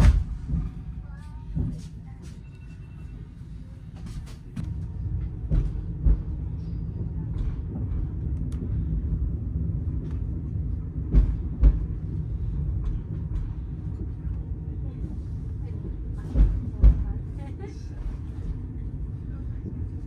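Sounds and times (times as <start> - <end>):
train interior low rumble: 0.0 - 20.0.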